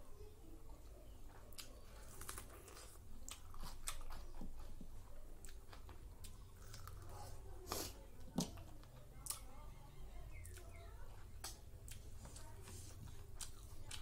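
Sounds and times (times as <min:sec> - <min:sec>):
wet chewing and mouth noises: 0:01.4 - 0:09.6, 0:10.3 - 0:14.0.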